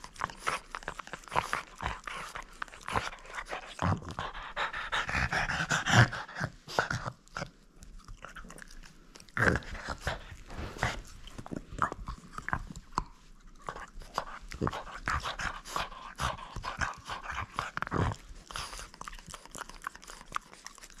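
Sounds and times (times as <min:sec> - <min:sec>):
dog chewing a toy: 0:00.0 - 0:21.0.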